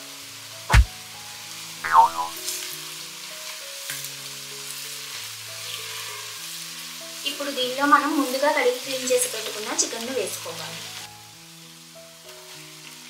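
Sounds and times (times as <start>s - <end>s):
oil sizzling with frying onions: 0.0s - 13.0s
soft background music: 0.0s - 13.0s.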